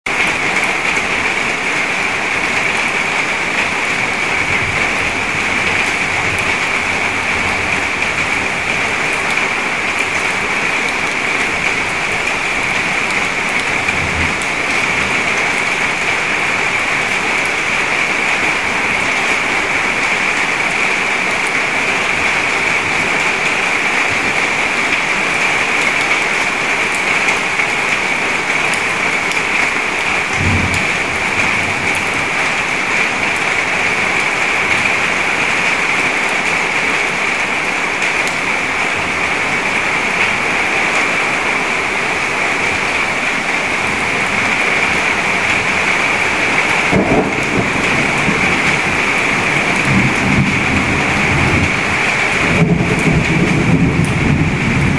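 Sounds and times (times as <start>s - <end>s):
rain falling on puddle: 0.1s - 54.9s.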